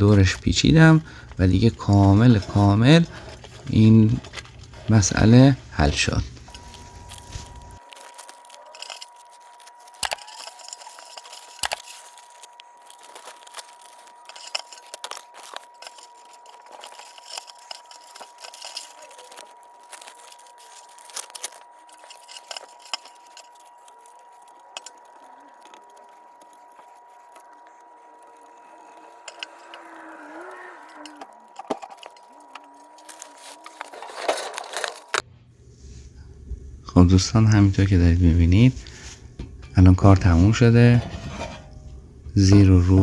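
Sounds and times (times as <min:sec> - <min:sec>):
rustling handling noise: 0:00.0 - 0:43.0.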